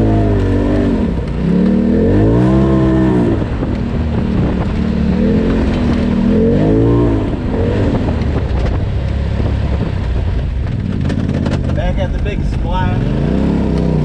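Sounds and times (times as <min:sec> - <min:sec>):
turbocharged engine revving: 0:00.0 - 0:14.0
vehicle rumbling over trail: 0:00.0 - 0:14.0.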